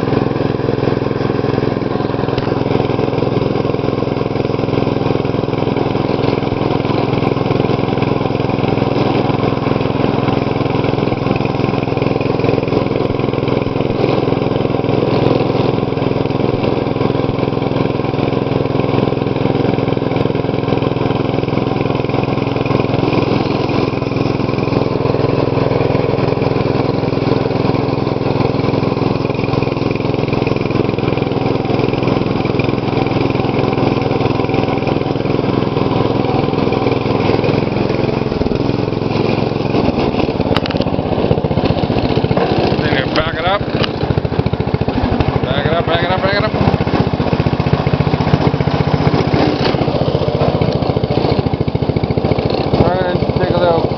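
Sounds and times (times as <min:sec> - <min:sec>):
lawn tractor engine running: 0:00.0 - 0:53.9.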